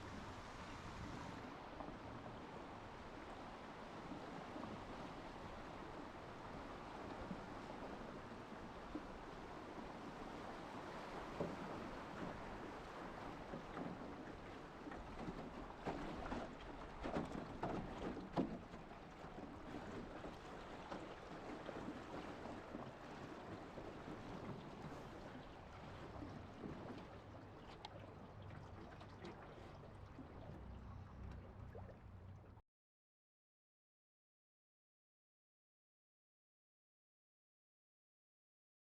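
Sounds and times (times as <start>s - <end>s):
water lapping against a boat: 0.0s - 32.6s.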